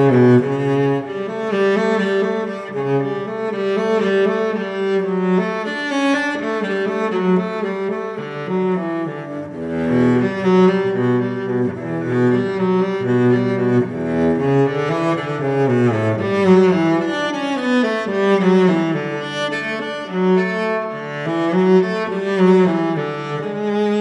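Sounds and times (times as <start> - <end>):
slow string-like background music: 0.0 - 24.0.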